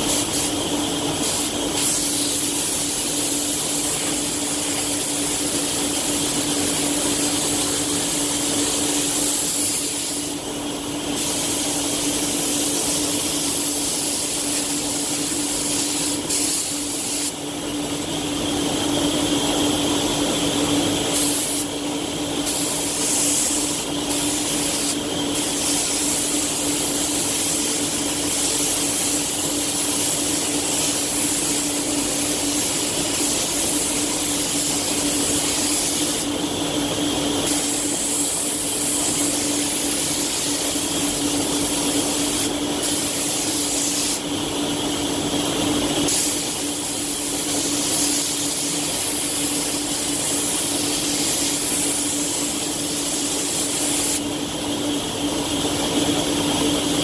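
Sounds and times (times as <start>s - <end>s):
spray gun hissing: 0.0s - 10.6s, 11.2s - 17.4s, 21.1s - 21.7s, 22.4s - 36.4s, 37.4s - 44.3s, 46.1s - 54.3s
steady hum: 0.0s - 56.9s.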